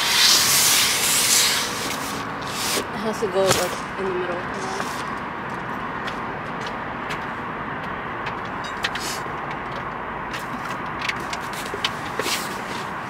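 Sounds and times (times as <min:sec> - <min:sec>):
traffic rumbling: 0:00.0 - 0:13.0.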